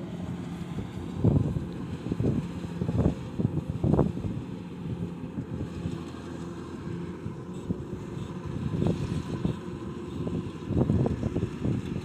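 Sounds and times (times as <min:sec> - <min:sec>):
diesel engine rumbling: 0:00.0 - 0:12.0
wind buffeting microphone: 0:00.6 - 0:06.0, 0:07.2 - 0:12.0.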